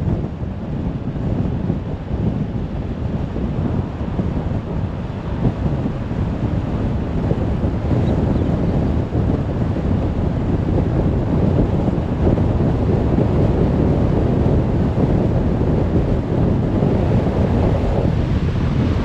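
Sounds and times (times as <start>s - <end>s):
tyre and wind noise: 0.0s - 19.0s.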